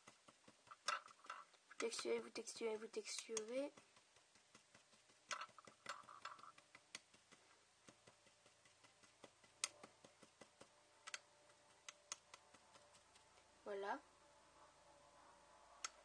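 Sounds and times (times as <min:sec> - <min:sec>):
light taps and clicks: 0:00.0 - 0:13.5.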